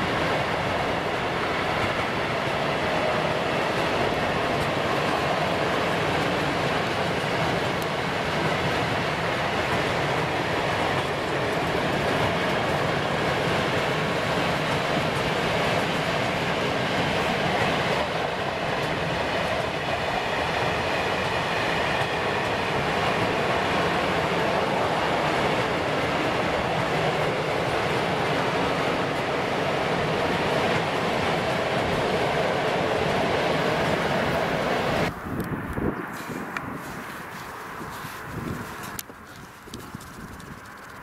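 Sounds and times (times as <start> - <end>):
freight train wheels rumbling: 0.0 - 41.0.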